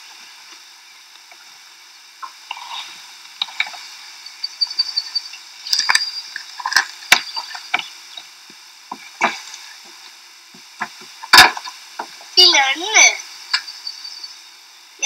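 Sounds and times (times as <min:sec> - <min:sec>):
faint steady hum and hiss: 0:00.0 - 0:15.0.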